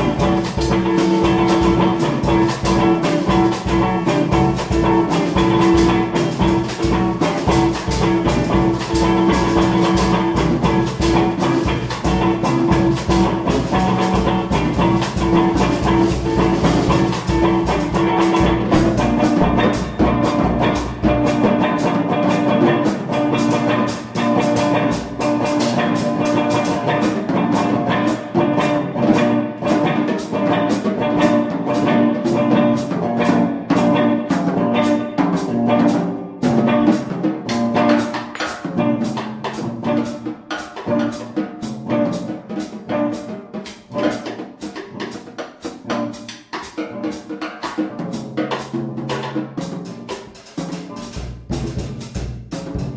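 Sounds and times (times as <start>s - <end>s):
sustained guitar tones: 0.0s - 44.1s
drums and percussion: 0.0s - 52.9s.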